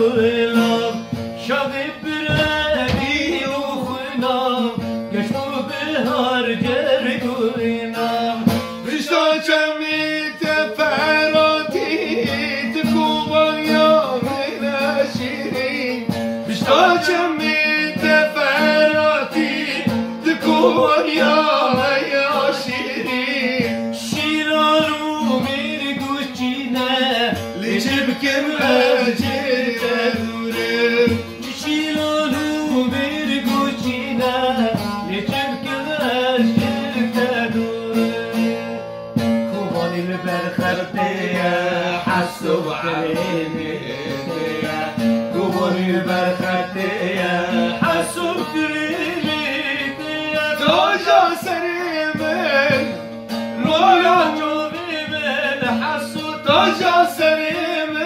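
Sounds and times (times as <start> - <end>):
man singing: 0.0 - 58.0
plucked saz strings: 0.0 - 58.0.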